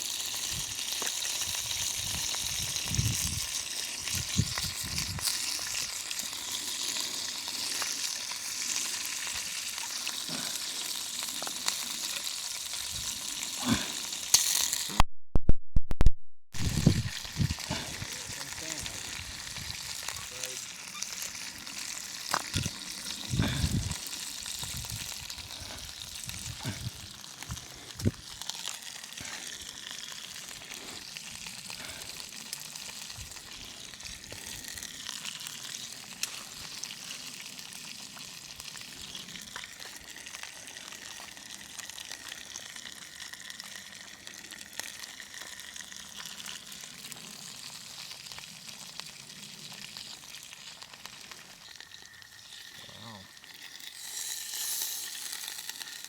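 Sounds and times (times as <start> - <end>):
fish frying sizzle: 0.0 - 15.0, 16.6 - 56.0.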